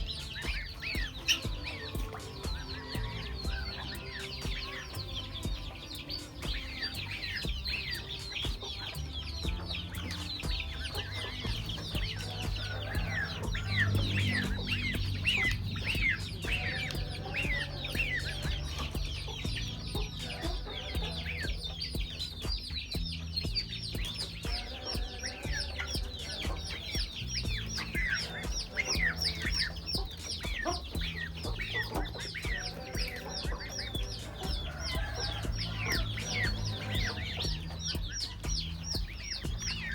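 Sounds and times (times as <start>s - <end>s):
chickens clucking: 0.0s - 39.9s
high quick chirping: 0.0s - 39.9s
low steady rumble: 0.0s - 39.9s.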